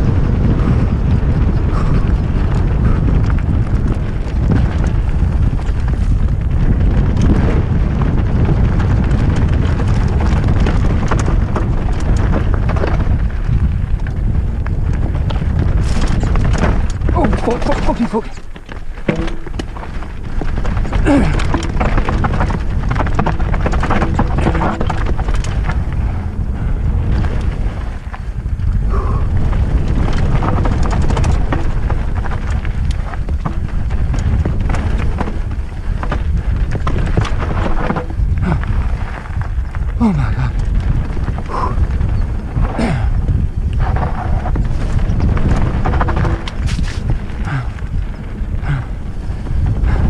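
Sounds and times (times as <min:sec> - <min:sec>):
bike tyres rattling over rocks: 0:00.0 - 0:50.0
wind buffeting microphone: 0:00.0 - 0:50.0.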